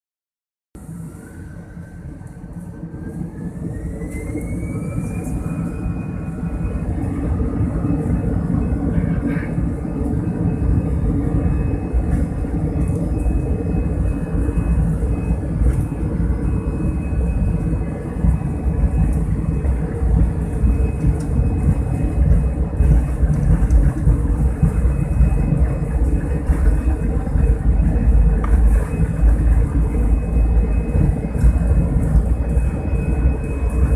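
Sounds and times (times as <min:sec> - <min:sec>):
jet engines whining and rumbling: 0:00.8 - 0:33.9.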